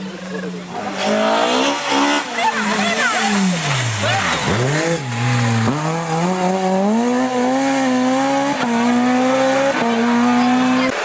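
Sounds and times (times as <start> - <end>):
rally car engine accelerating: 0.2 - 11.0.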